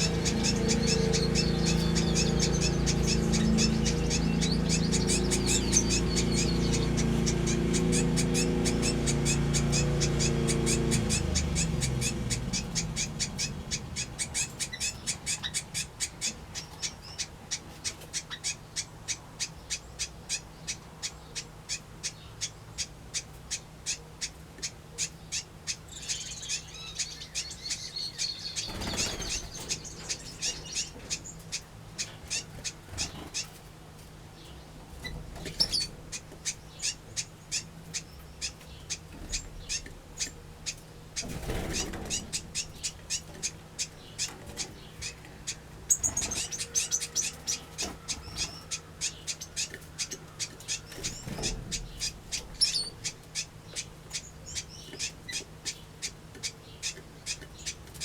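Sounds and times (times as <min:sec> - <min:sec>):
birds twittering: 0:00.0 - 0:58.0.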